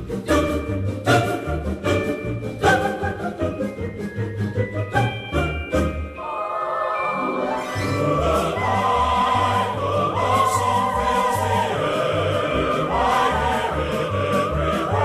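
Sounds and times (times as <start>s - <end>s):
operatic choir singing: 0.2s - 3.5s, 4.9s - 15.0s.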